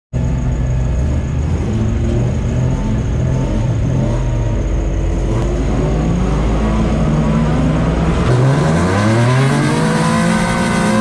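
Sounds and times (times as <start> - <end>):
race car engine running: 0.2 - 11.0.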